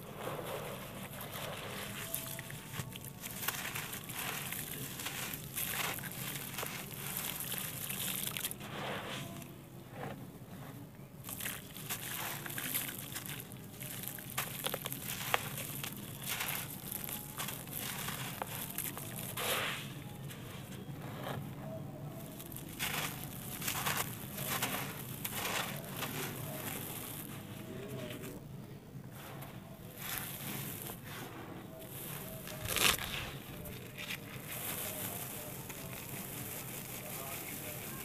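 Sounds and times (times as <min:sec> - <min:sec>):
patter of falling grains: 0:00.0 - 0:09.5, 0:11.2 - 0:19.9, 0:22.2 - 0:28.4, 0:29.1 - 0:38.0
gritty soil crunching: 0:00.0 - 0:28.5, 0:29.1 - 0:38.0.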